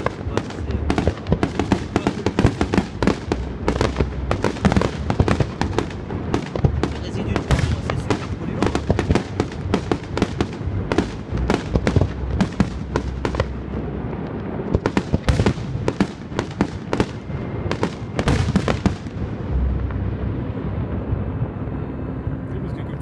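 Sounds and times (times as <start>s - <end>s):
firework shells bursting: 0.0s - 19.2s.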